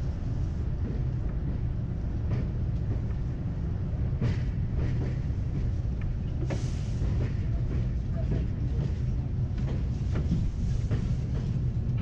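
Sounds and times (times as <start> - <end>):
subway car rumbling on track: 0.0 - 12.0.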